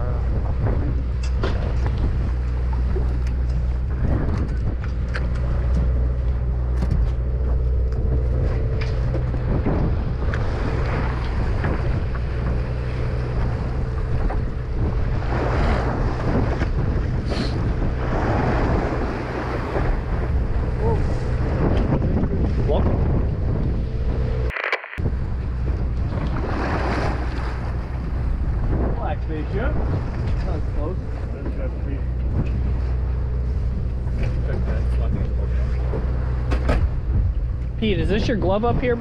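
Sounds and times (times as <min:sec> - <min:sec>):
boat engine humming: 0:00.0 - 0:39.0
waves splashing on hull: 0:00.0 - 0:39.0
wind buffeting microphone: 0:00.0 - 0:39.0.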